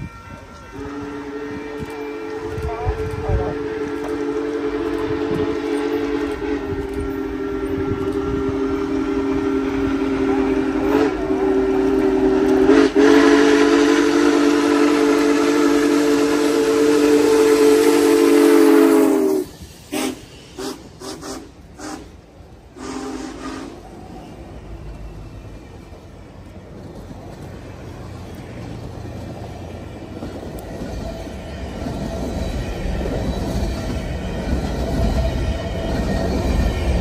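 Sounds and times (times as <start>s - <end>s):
steam locomotive chime whistle: 0.0s - 26.4s, 28.1s - 37.0s.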